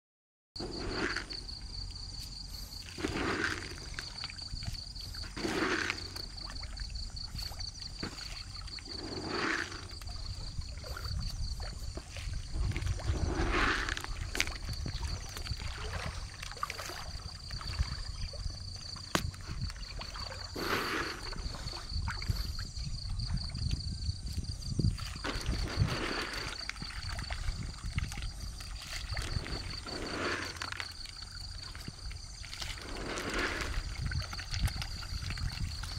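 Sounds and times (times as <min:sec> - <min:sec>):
pond water sloshing: 0:00.6 - 0:35.9
wind rumble on microphone: 0:00.6 - 0:35.9.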